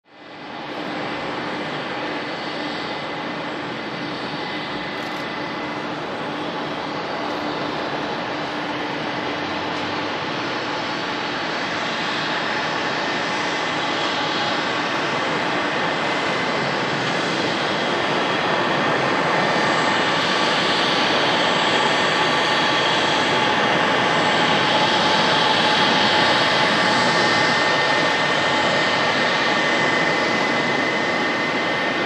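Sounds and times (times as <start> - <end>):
jet engines roaring and whining: 0.1 - 32.0.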